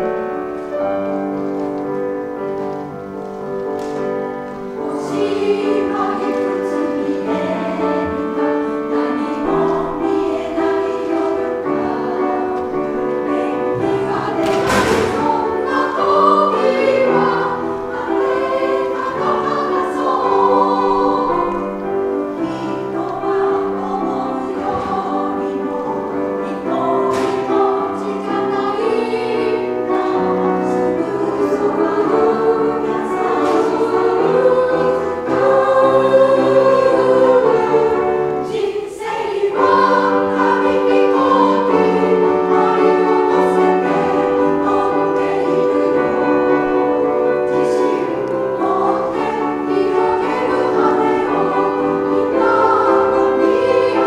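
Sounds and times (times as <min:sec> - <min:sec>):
piano accompaniment: 0:00.0 - 0:54.0
women's choir singing: 0:00.0 - 0:54.0.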